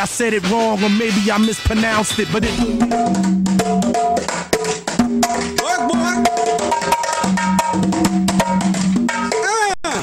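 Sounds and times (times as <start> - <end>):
conga drums: 0.0 - 10.0.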